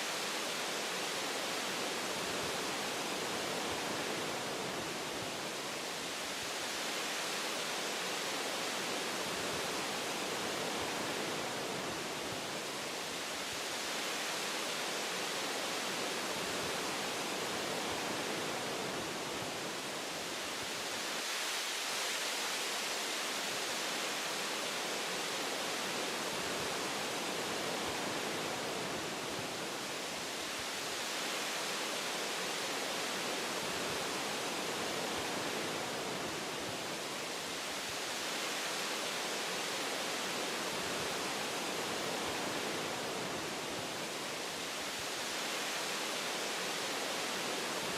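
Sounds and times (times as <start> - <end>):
wind through tree branches: 0.0 - 47.9.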